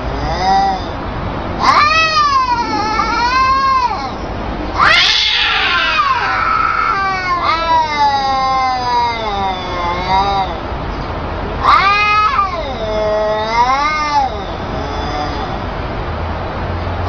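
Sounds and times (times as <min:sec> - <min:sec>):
cats yowling: 0:00.0 - 0:10.8, 0:11.6 - 0:15.9.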